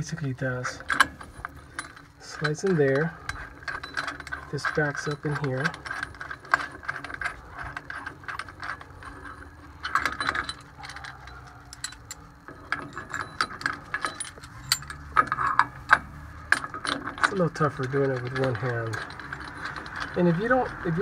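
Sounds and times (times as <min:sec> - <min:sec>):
hand ratchet clicking: 0:00.7 - 0:21.0.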